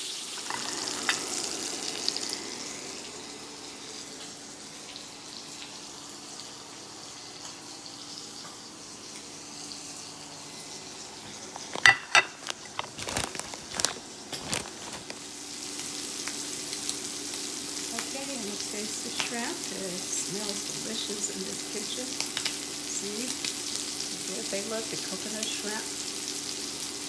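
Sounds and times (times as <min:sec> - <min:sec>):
shrimp sizzling in a pan: 0:00.0 - 0:27.0.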